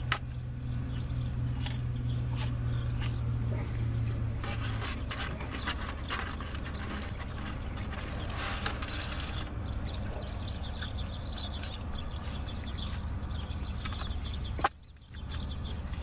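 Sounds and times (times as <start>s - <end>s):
man chewing: 0.0s - 14.4s.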